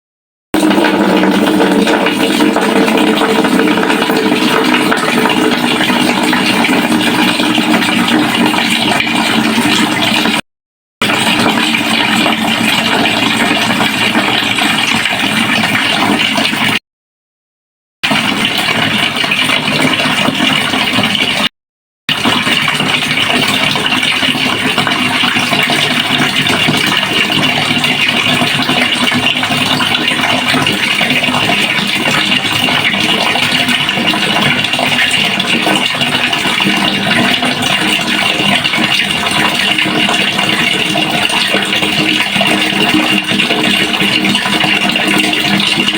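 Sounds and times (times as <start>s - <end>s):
water running into a pail: 0.6s - 10.4s, 11.0s - 16.8s, 18.0s - 21.5s, 22.1s - 45.9s.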